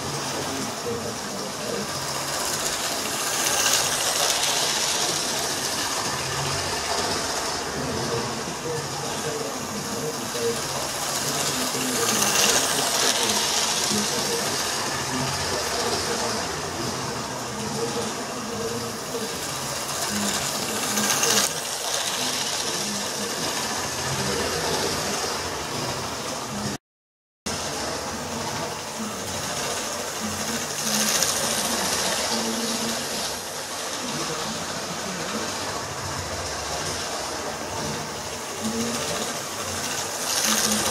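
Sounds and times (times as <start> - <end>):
model train running on rails: 0.0 - 26.8, 27.5 - 40.9.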